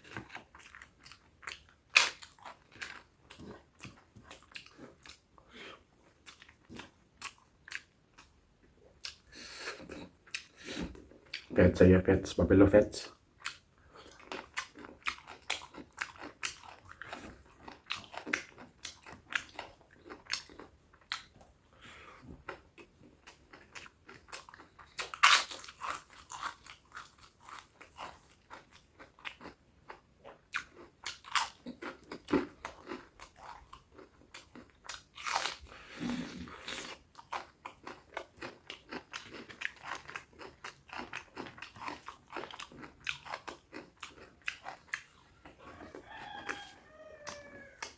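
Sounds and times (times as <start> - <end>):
person chewing meat: 0.0 - 11.6, 13.0 - 47.9.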